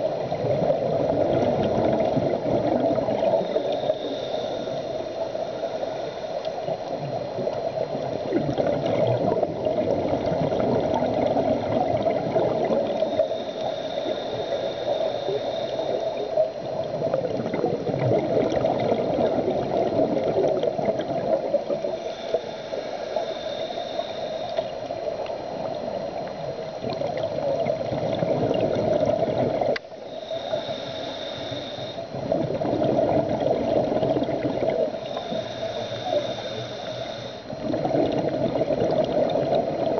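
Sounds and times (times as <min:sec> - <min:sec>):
scuba regulator bubbling underwater: 0:00.0 - 0:39.9.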